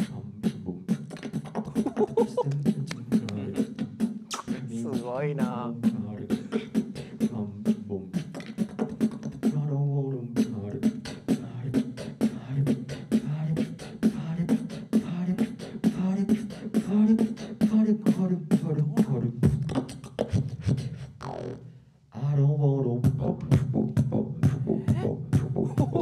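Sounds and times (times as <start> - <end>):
person beatboxing: 0.0 - 21.6, 22.8 - 26.0.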